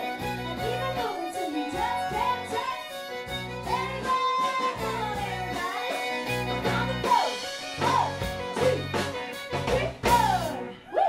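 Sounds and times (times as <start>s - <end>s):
fiddle sliding between notes: 0.0s - 10.7s
country band playing: 0.0s - 11.0s.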